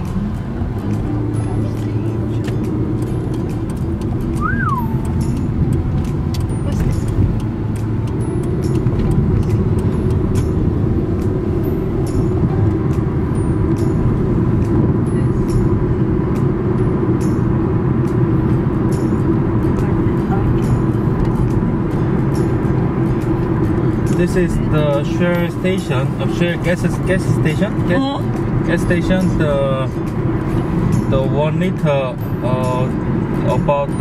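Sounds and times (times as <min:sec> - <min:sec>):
car driving in city traffic: 0:00.0 - 0:34.0.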